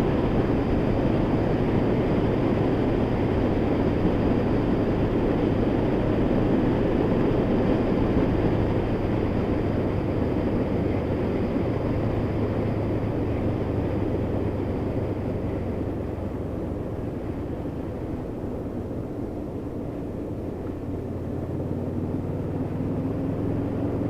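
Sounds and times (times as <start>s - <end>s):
motorcycle engine running: 0.0s - 24.0s
rush of riding noise: 0.0s - 24.0s.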